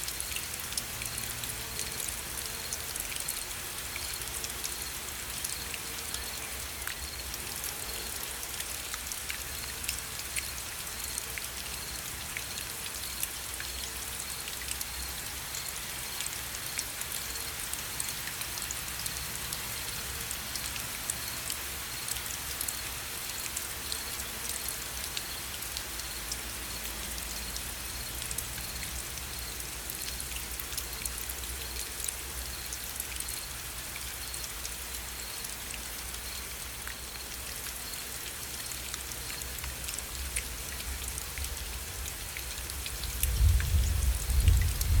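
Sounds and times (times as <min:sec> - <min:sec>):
gentle rain falling: 0:00.0 - 0:45.0.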